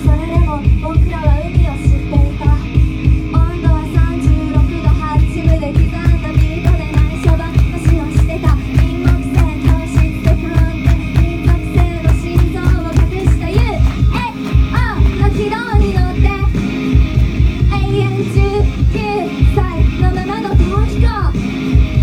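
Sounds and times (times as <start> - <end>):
woman singing into microphone: 0.0 - 17.0, 17.6 - 22.0
fast drum beat: 0.0 - 22.0.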